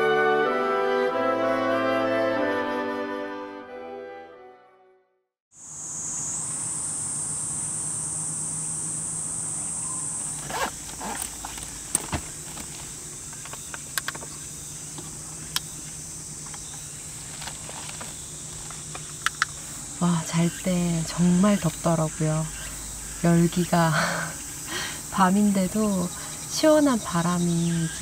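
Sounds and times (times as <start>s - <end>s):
crickets trilling: 5.6s - 28.0s.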